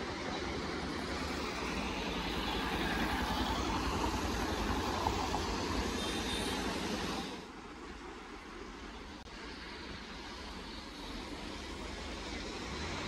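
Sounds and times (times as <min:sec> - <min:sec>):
tyre hiss on wet road: 0:00.9 - 0:13.0.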